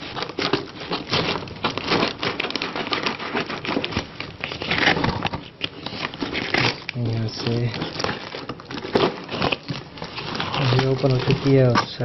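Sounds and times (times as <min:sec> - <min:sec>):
plastic wrapping crinkling: 0:00.0 - 0:12.0
scissors cutting packing tape: 0:00.0 - 0:12.0.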